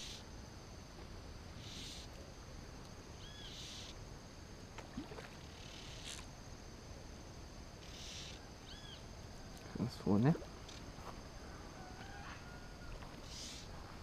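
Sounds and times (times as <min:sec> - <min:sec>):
thin high hum: 0:00.0 - 0:14.0.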